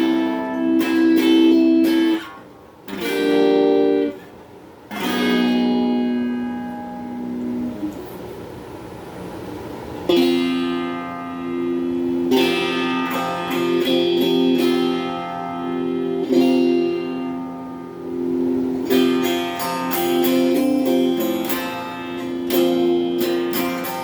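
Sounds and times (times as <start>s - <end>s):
electric guitar chords ringing: 0.0s - 24.0s
picked guitar notes: 0.0s - 24.0s.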